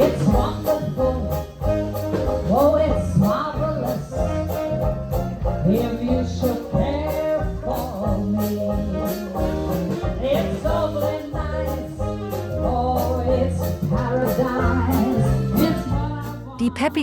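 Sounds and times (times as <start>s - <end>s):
jazz band playing: 0.0s - 17.0s
person singing: 2.5s - 17.0s.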